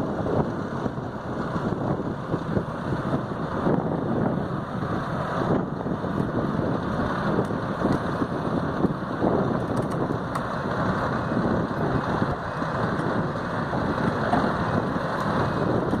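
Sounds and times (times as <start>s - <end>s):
excavator diesel engine running: 0.0s - 16.0s
wind noise on microphone: 0.0s - 16.0s.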